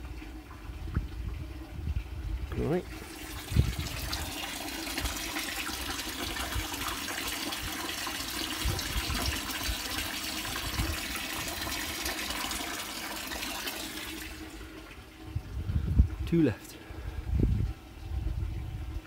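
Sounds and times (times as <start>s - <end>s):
water splashing into a tank: 0.0s - 16.5s.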